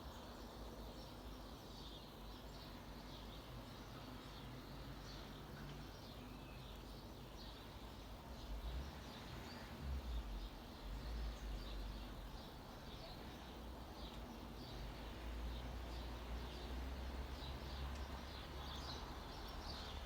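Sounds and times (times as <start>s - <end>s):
wild birds chirping: 0.0s - 20.0s.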